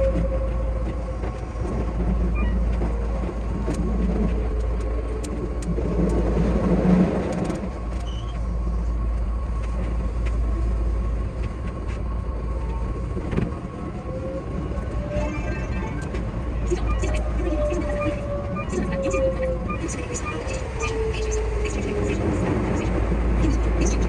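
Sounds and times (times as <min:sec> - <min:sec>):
electric train rumbling: 0:00.0 - 0:24.0
wheels clicking on track: 0:00.0 - 0:24.0.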